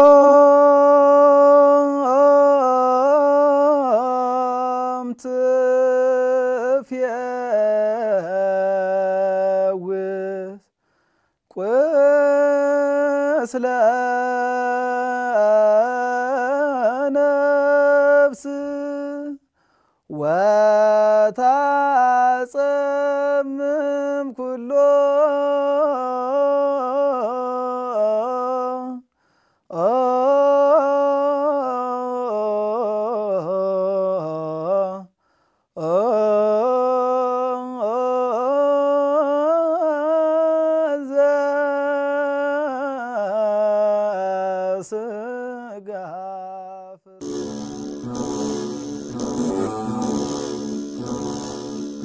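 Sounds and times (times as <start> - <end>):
person singing unaccompanied: 0.0 - 10.6, 11.6 - 19.5, 20.1 - 29.0, 29.7 - 35.1, 35.8 - 52.0.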